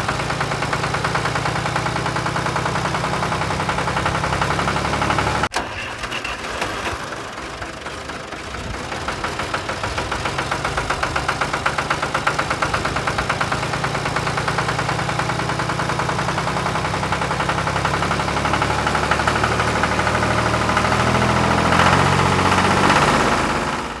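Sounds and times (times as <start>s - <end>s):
small tractor engine chugging: 0.0s - 24.0s.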